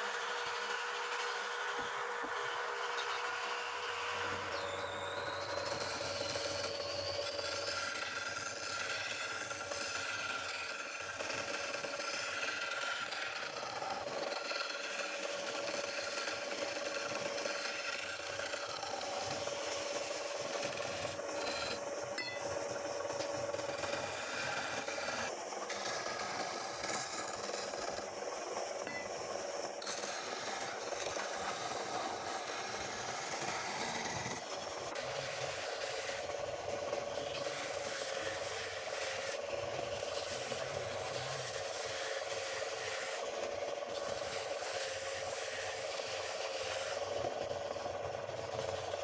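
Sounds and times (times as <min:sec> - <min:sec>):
lathe humming: 0:00.0 - 0:49.0
tool scraping spinning wood: 0:00.0 - 0:49.0.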